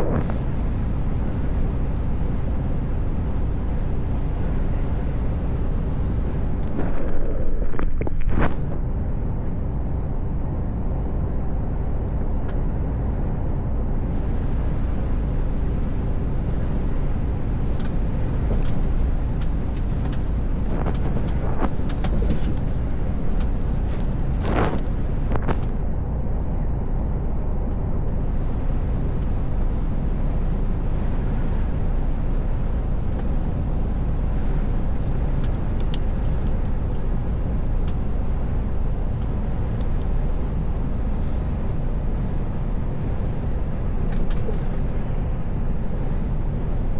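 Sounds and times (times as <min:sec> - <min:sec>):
truck driving: 0:00.0 - 0:46.9.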